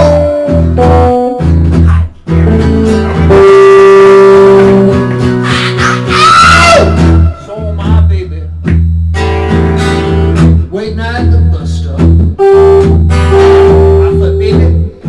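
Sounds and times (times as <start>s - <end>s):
acoustic guitar strumming: 0.0s - 15.0s
electric guitar: 0.0s - 15.0s.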